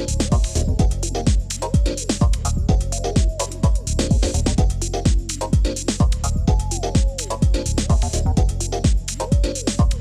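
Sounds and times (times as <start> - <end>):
hi-hats: 0.0 - 10.0
kick drum: 0.0 - 10.0
minimal techno music: 0.0 - 10.0.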